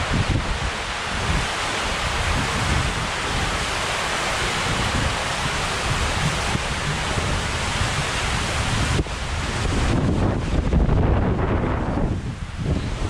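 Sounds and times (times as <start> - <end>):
rush of sliding water: 0.0 - 13.0.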